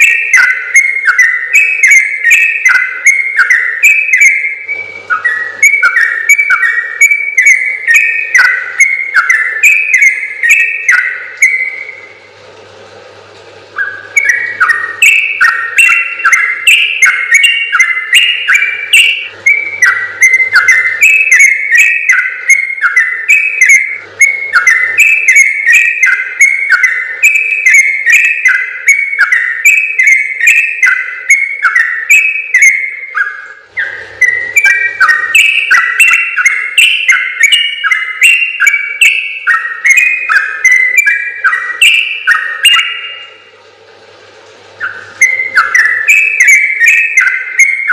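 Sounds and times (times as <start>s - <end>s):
bird singing bubbling whistled notes: 0.0s - 12.3s, 13.7s - 43.5s, 44.7s - 47.9s.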